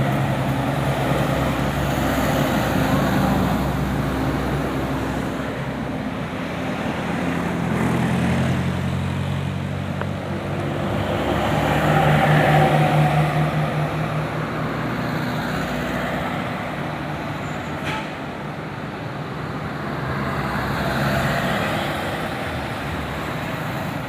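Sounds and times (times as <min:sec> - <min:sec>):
bus engine running: 0:00.0 - 0:24.0
road traffic noise: 0:00.0 - 0:24.0.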